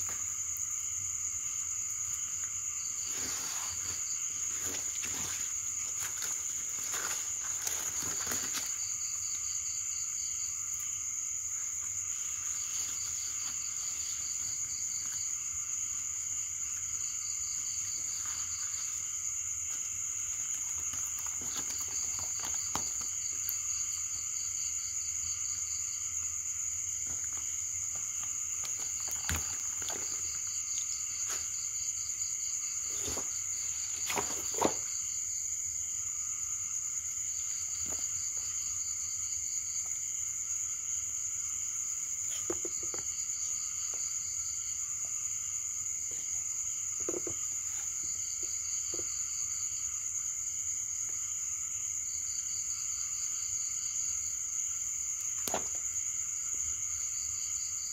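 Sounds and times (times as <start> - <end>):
high insect trill: 0.0 - 57.9.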